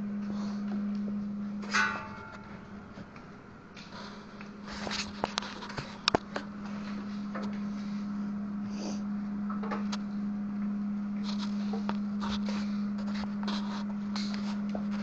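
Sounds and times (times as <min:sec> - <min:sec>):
welder electrical hum: 0:00.0 - 0:15.0.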